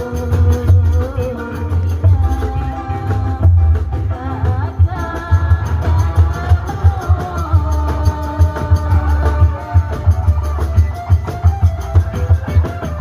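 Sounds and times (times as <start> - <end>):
heavy low drum beat: 0.0 - 13.0.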